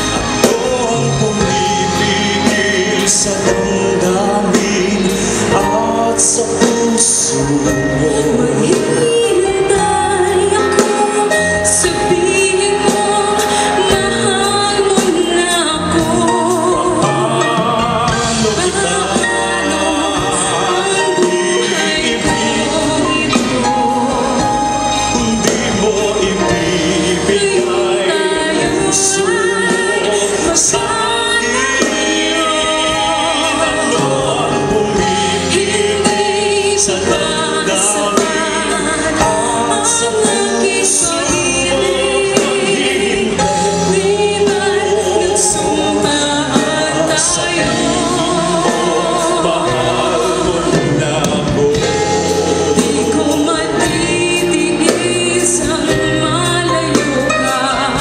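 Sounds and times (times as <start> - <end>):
live band playing ballad: 0.0 - 58.0
person singing: 0.0 - 58.0.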